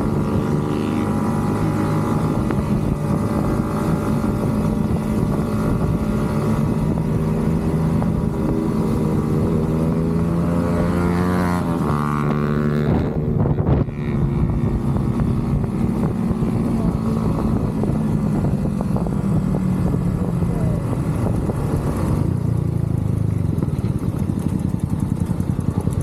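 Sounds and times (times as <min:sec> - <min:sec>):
motorcycle engine and exhaust: 0:00.0 - 0:26.0.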